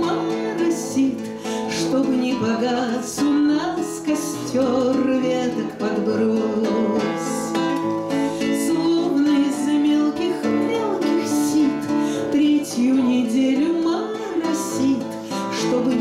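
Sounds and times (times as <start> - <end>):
strummed acoustic guitar: 0.0 - 16.0
woman singing: 0.0 - 16.0.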